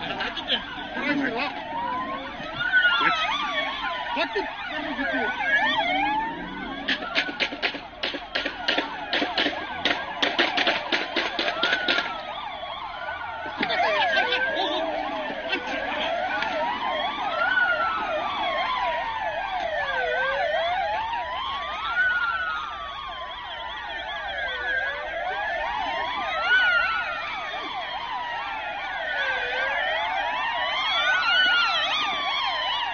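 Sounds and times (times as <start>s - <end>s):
police siren wailing: 0.0s - 32.9s
police siren yelping: 0.0s - 32.9s.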